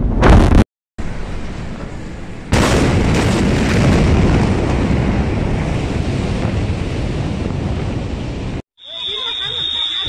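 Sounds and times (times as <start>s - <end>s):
explosion blast wave roar: 0.0s - 8.6s.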